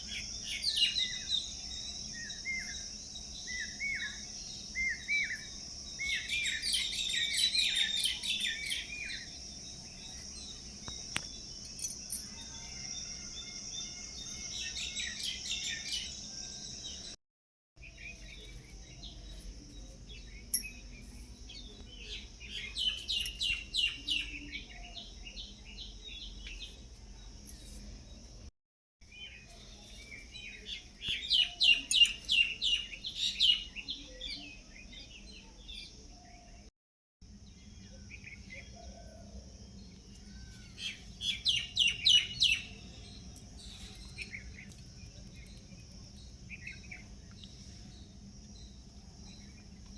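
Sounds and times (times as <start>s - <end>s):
small birds chirping: 0.0s - 17.2s, 17.8s - 28.4s, 29.0s - 36.7s, 37.4s - 49.9s.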